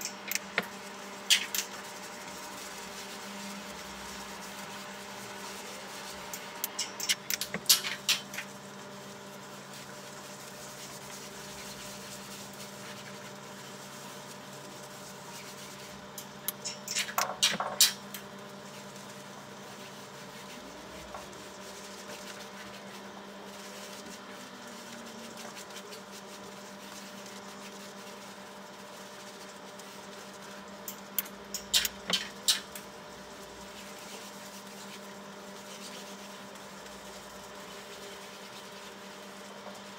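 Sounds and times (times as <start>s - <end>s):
low hum with faint tones: 0.0s - 39.9s.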